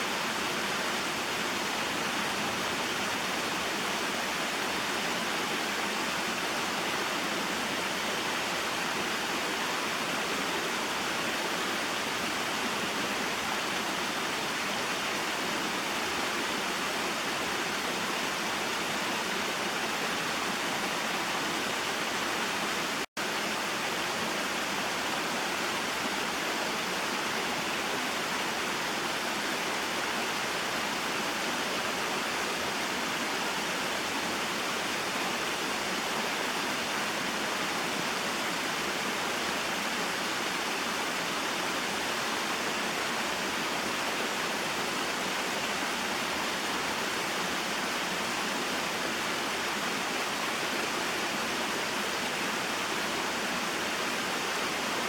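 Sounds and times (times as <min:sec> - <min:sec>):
waterfall and stream flowing: 0:00.0 - 0:55.0.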